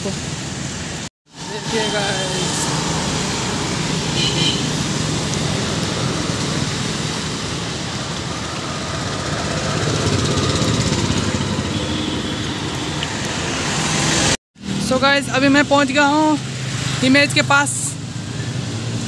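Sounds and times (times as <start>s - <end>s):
traffic on a wet road: 0.0s - 19.0s.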